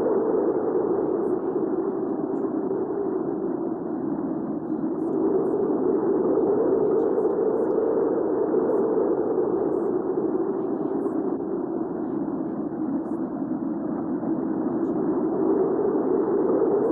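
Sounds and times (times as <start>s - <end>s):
muffled hurricane wind: 0.0s - 16.9s.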